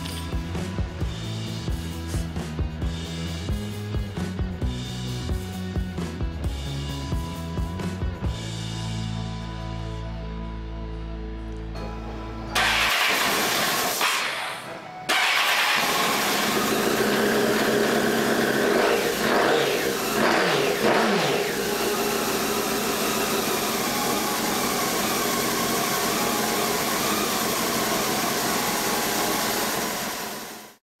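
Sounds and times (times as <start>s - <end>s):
motorcycle engine revving and idling: 0.0s - 8.6s, 12.6s - 14.5s, 15.1s - 30.8s.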